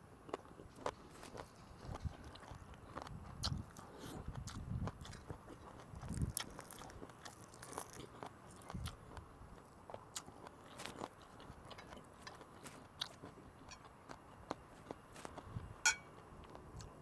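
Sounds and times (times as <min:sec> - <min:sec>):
man chewing with mouth clicks: 0:00.2 - 0:17.0.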